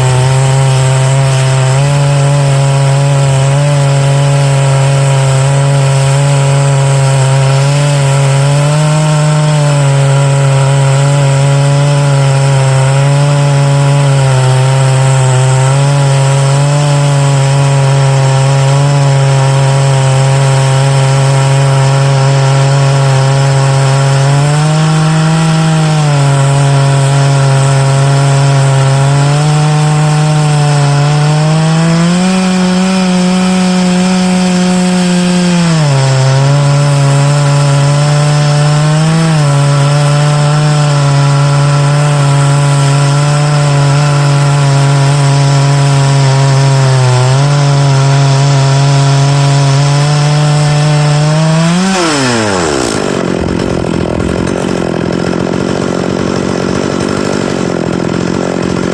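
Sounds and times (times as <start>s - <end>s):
chainsaw running under load: 0.0s - 58.9s.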